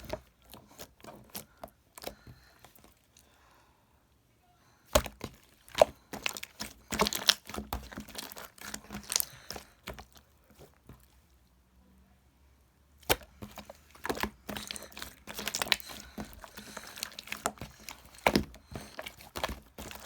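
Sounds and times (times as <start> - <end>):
crackling and crinkling handling: 0.0 - 3.4, 4.8 - 11.5, 13.0 - 20.0.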